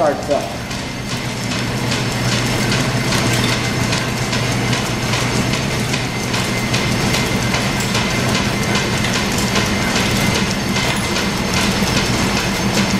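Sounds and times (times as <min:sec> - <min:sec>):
belt-driven lathe humming: 0:00.0 - 0:12.9
regular mechanical clicking: 0:00.6 - 0:12.9.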